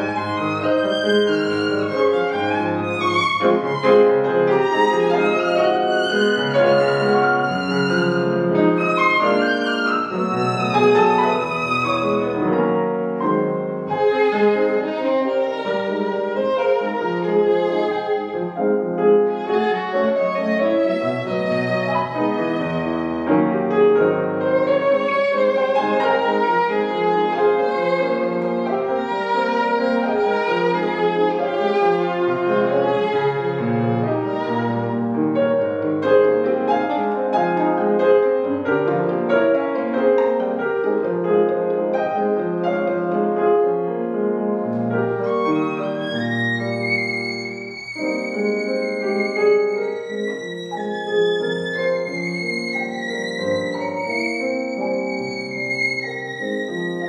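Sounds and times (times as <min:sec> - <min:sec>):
violin playing: 0:00.0 - 0:42.9, 0:44.7 - 0:57.0
grand piano playing: 0:00.0 - 0:57.0.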